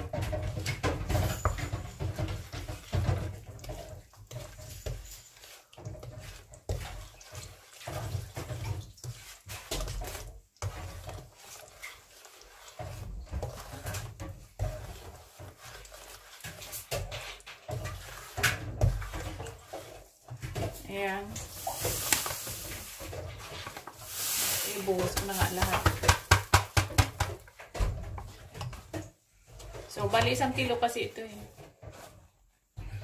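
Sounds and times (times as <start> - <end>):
scraping against metal pan: 0.0 - 33.0
wooden spatula stirring thick mix: 0.0 - 33.0.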